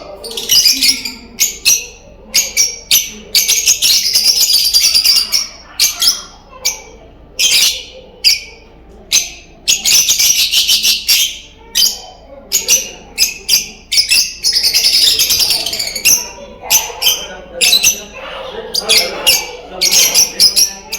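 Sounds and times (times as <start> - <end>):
birds rapid chattering: 0.0 - 20.9
lovebirds chirping shrilly: 0.1 - 20.9.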